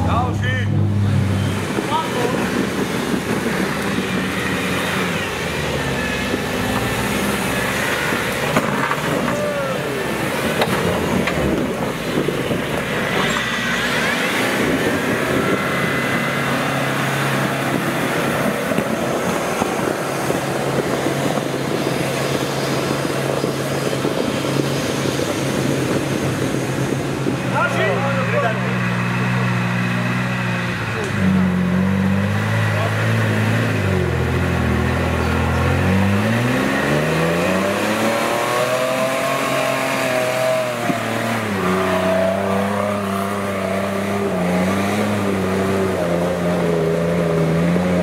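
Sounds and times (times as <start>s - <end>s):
engine running at low revs: 0.0s - 48.0s.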